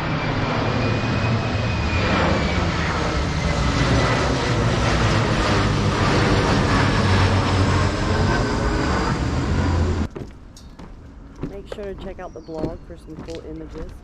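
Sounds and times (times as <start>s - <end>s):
airplane flying low overhead: 0.0s - 14.0s.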